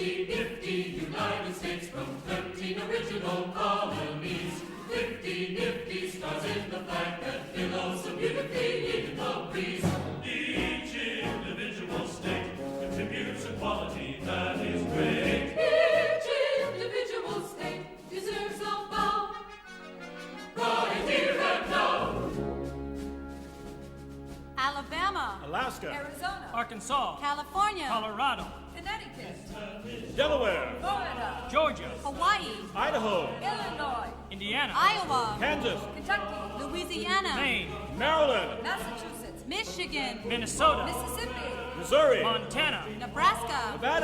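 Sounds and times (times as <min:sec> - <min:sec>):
choir singing: 0:00.0 - 0:24.6, 0:25.2 - 0:44.0
orchestral accompaniment: 0:00.0 - 0:44.0.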